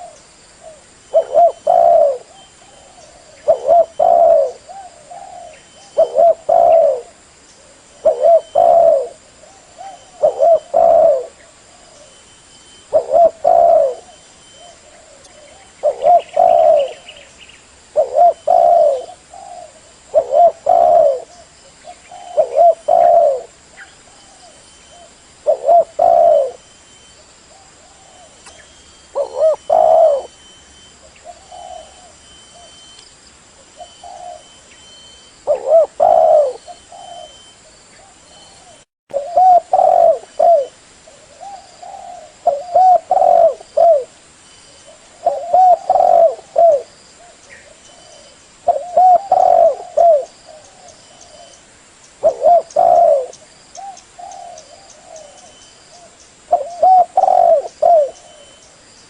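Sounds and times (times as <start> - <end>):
dove cooing: 0.0 - 12.2, 12.8 - 17.3, 17.9 - 26.7, 27.6 - 32.9, 33.6 - 34.6, 35.4 - 44.2, 44.8 - 51.6, 52.2 - 58.8.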